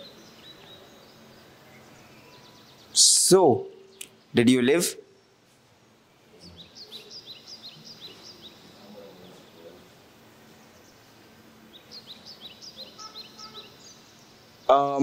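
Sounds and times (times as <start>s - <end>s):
small bird chirping: 0.0s - 4.4s, 6.3s - 14.8s.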